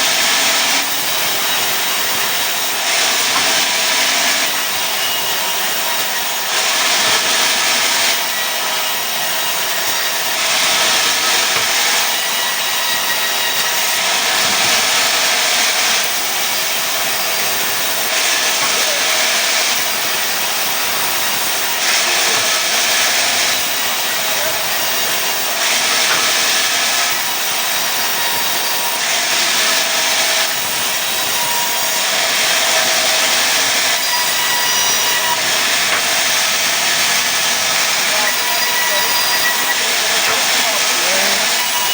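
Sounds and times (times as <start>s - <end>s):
saw cutting boards: 0.0s - 41.9s.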